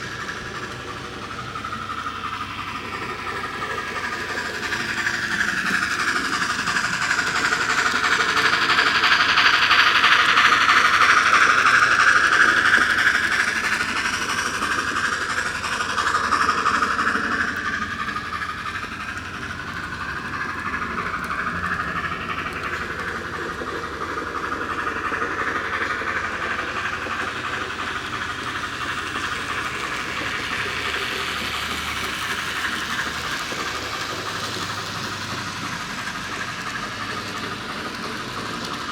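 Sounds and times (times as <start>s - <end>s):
model train whirring: 0.0s - 38.9s.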